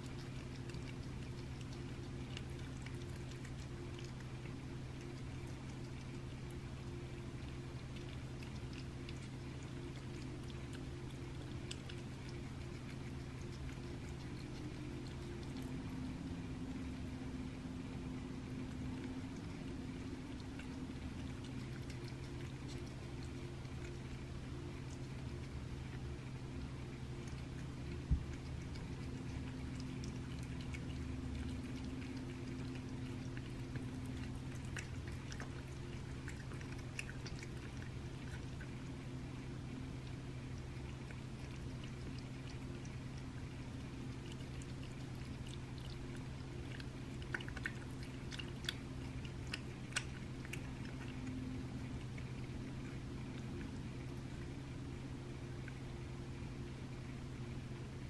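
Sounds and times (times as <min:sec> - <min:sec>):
cat chewing and licking: 0:00.0 - 0:58.0
steady low hum: 0:00.0 - 0:58.0.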